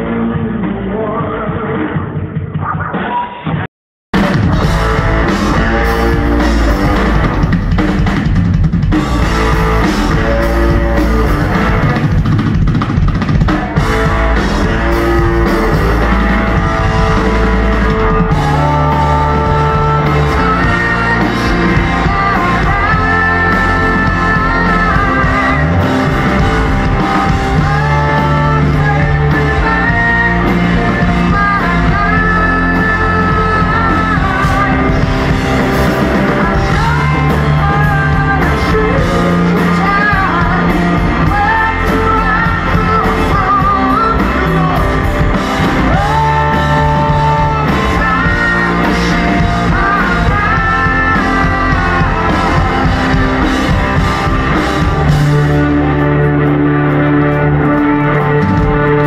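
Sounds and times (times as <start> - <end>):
person singing lead vocal: 0.0 - 3.4, 4.2 - 8.2, 8.9 - 12.3, 13.5 - 59.0
bass guitar: 0.0 - 59.0
drums: 0.0 - 59.0
electric guitar: 4.2 - 59.0.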